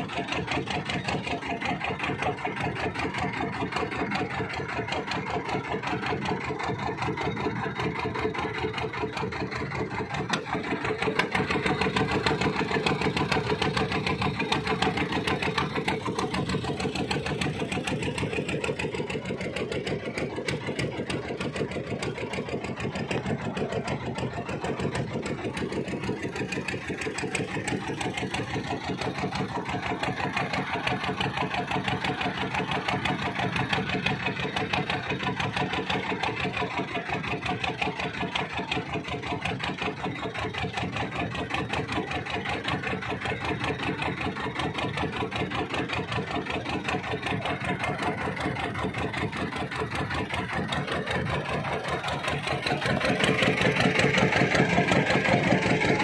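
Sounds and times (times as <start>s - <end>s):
boat engine chugging: 0.0s - 56.0s.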